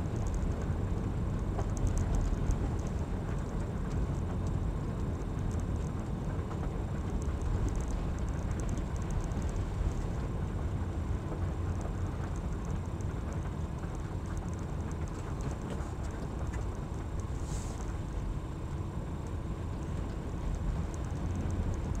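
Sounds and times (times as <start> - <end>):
car engine and tyres rumbling: 0.0 - 22.0
faint light ticking: 0.1 - 18.0, 18.6 - 22.0.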